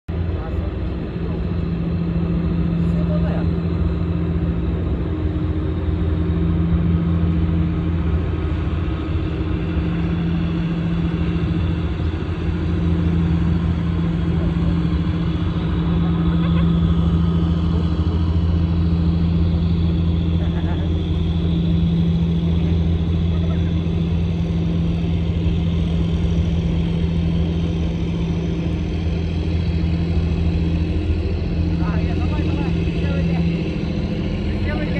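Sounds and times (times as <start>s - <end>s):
boat engine humming: 0.1s - 34.9s.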